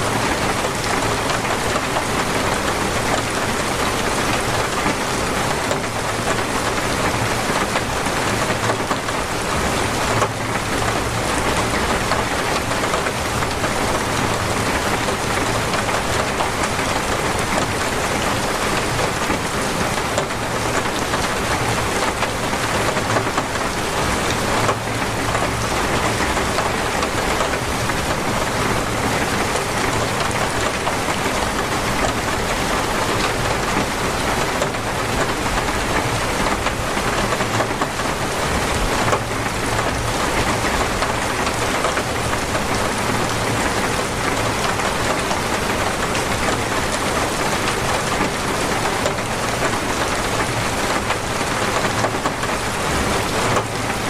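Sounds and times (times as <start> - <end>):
torrential rain: 0.0 - 54.0.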